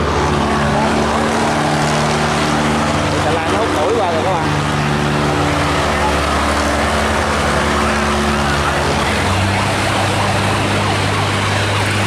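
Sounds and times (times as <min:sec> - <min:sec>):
boat engines running: 0:00.0 - 0:12.0
dense rushing noise: 0:00.0 - 0:12.0.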